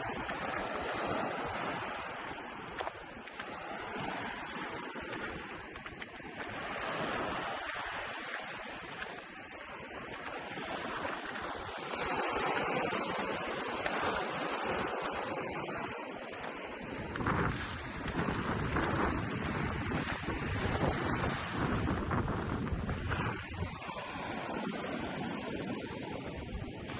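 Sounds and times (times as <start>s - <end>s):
ocean waves on a beach: 0.0s - 26.9s
wind buffeting microphone: 0.0s - 26.9s.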